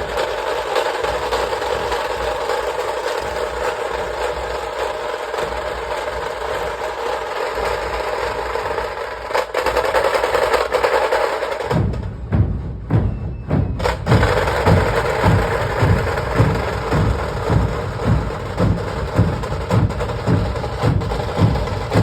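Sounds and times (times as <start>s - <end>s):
dhol drum beats: 0.0s - 22.0s
tasha drums rolling: 0.0s - 22.0s.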